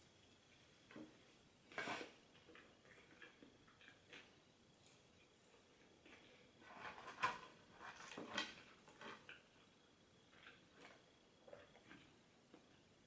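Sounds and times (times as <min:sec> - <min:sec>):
crackly clicks and rustles: 0:00.3 - 0:12.9.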